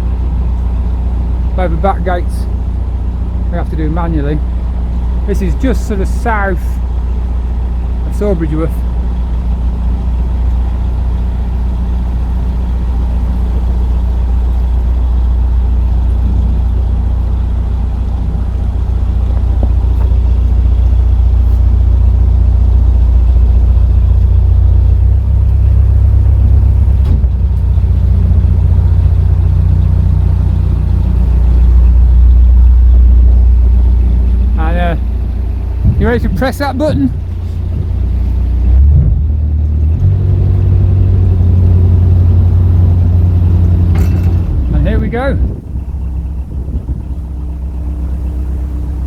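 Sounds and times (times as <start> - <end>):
diesel engine humming: 0.0 - 49.0.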